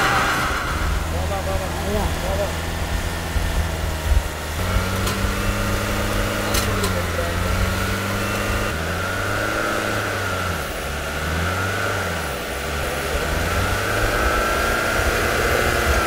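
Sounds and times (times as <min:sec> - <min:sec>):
car engine revving: 0:00.0 - 0:16.0
wheels spinning in sand: 0:00.0 - 0:16.0.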